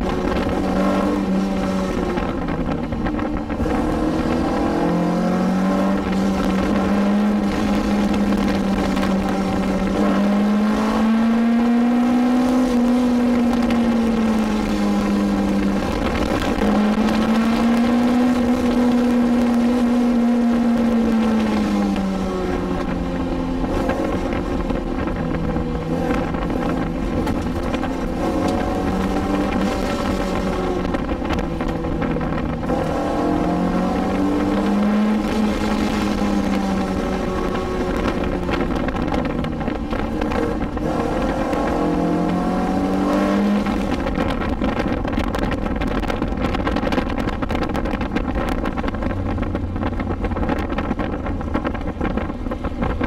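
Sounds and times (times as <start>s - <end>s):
car engine revving: 0.0s - 53.0s
road and tyre noise: 0.0s - 53.0s.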